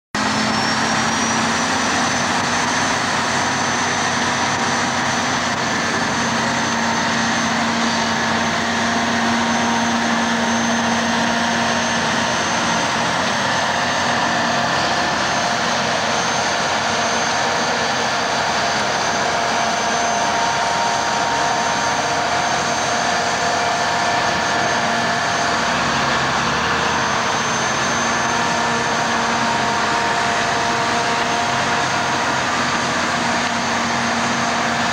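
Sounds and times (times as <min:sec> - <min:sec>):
diesel engines droning: 0:00.2 - 0:34.9.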